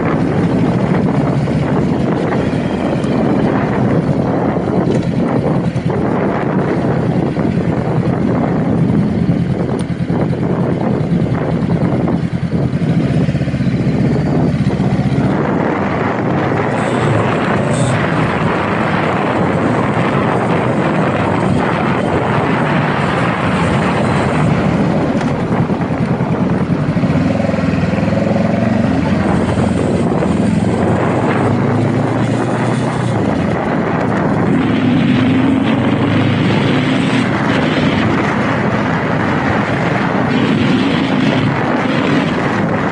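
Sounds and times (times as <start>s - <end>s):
motorcycle engine running: 0.0s - 42.9s
wind rushing over microphone: 0.0s - 42.9s.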